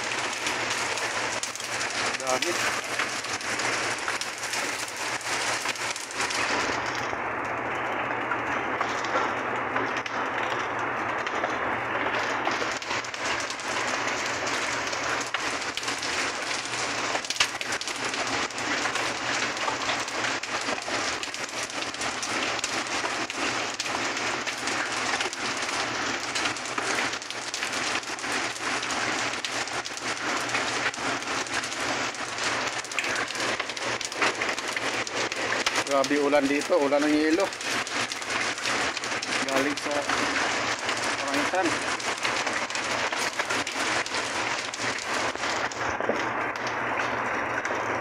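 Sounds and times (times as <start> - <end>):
hail clattering on ground: 0.0 - 7.1, 8.2 - 48.0.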